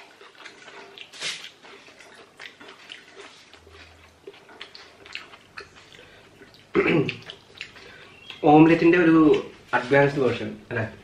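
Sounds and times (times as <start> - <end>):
chewing and mouth clicks: 0.0 - 9.6.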